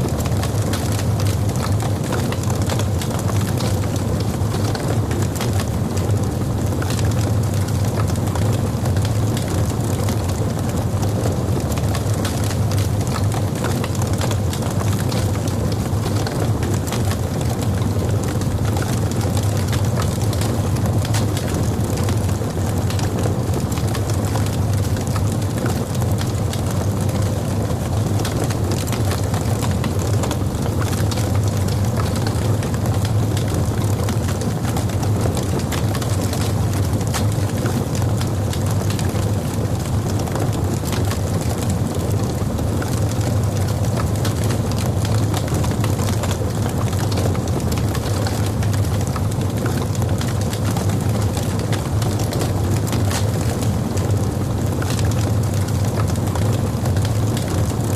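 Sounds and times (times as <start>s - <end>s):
log fire crackling: 0.1s - 57.9s.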